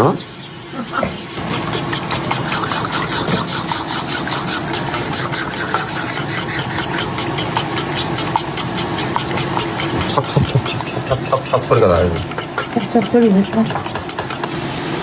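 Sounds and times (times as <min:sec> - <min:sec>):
food stirred with wet slapping: 0:00.2 - 0:15.0.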